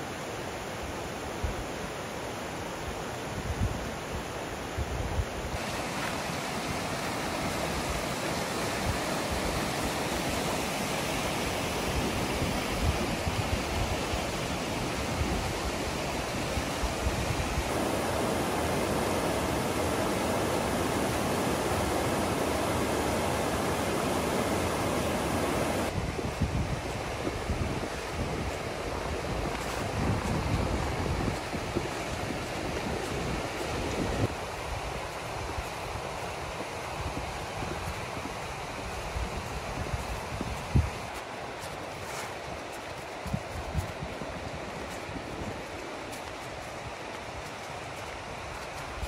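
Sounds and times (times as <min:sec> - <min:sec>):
wind buffeting microphone: 0:04.7 - 0:49.0
river rushing over rocks: 0:05.5 - 0:49.0.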